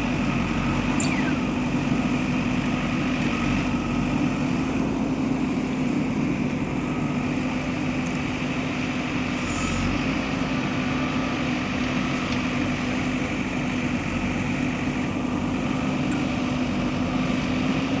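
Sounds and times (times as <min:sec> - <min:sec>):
heavy machinery diesel engine drone: 0:00.0 - 0:18.0.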